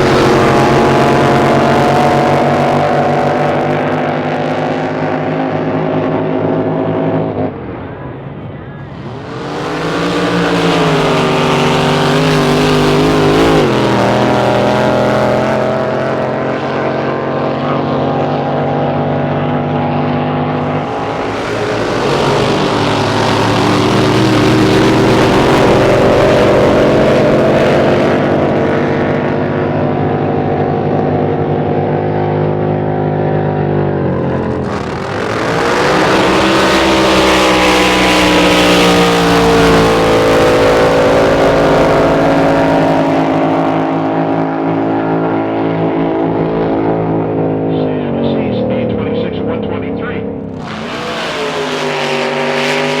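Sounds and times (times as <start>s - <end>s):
drag boat engine running: 0.0s - 53.0s.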